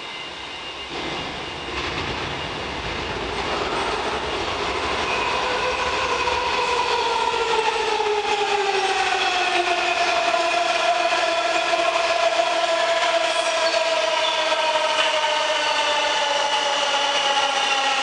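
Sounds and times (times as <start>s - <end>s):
subway train arriving: 0.0s - 18.0s.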